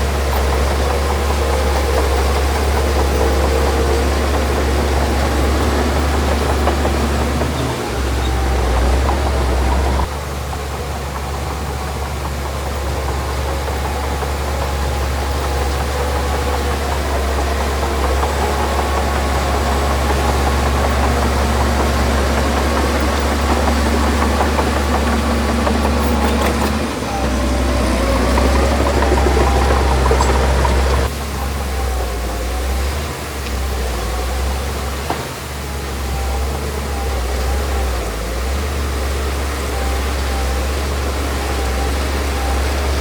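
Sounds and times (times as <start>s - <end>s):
diesel machinery engine running: 0.0s - 43.0s.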